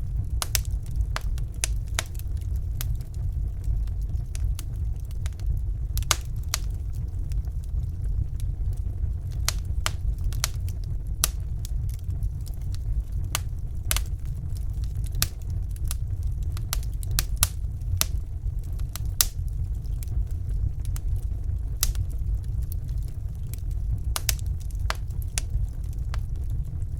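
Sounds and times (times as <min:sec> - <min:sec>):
fire crackling and popping: 0:00.0 - 0:26.9
low rumble of fire: 0:00.0 - 0:26.9.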